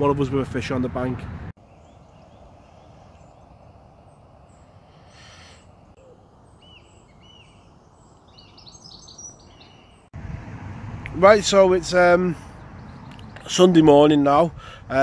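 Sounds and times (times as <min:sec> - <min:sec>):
small birds chirping: 0:01.6 - 0:10.2, 0:11.5 - 0:15.0.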